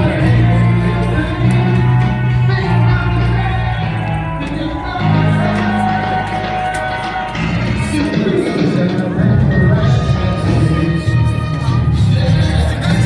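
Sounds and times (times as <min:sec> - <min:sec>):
loud bass notes: 0:00.0 - 0:13.0
person singing: 0:00.0 - 0:13.0.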